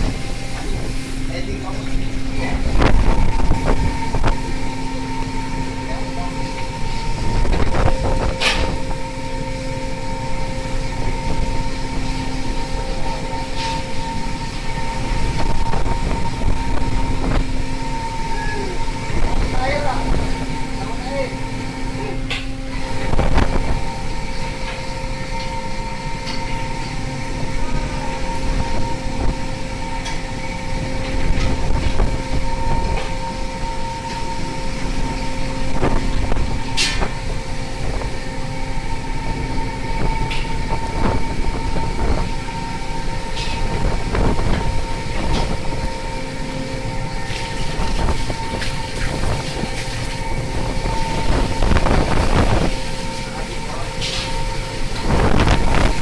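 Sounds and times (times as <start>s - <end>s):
boat engine and machinery drone: 0.0s - 56.0s.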